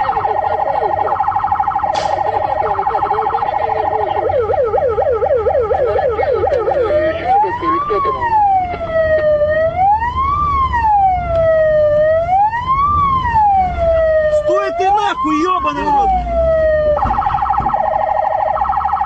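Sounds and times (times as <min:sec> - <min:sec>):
car rumble: 0:00.0 - 0:19.0
police siren yelp and wail: 0:00.0 - 0:19.0.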